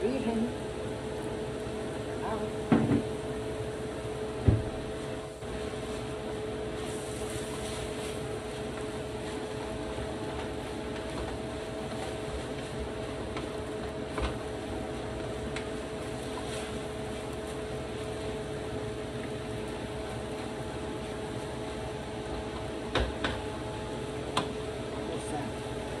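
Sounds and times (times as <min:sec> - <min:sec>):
extractor fan humming: 0:00.0 - 0:26.0.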